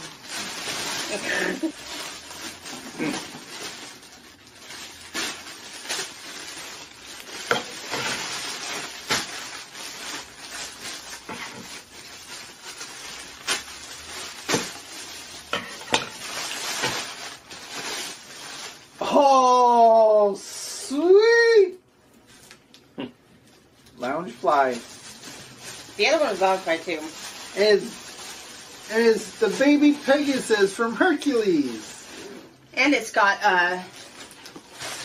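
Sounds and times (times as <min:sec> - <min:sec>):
plastic bag crinkling: 0:00.0 - 0:19.8, 0:23.4 - 0:35.0.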